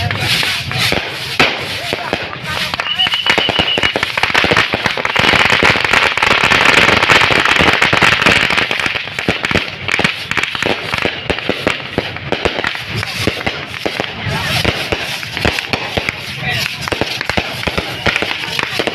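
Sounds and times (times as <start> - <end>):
fireworks cracking and popping: 0.0 - 18.9.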